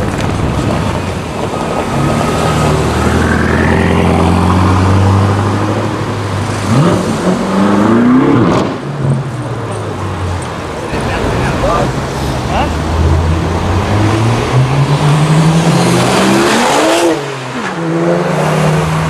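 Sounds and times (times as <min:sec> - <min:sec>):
car engine accelerating: 0:00.0 - 0:09.4, 0:10.4 - 0:19.0.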